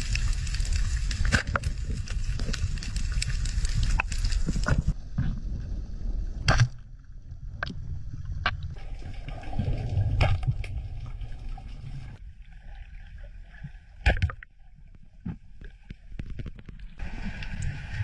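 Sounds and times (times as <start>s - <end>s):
water sloshing and gurgling: 0.0s - 18.0s.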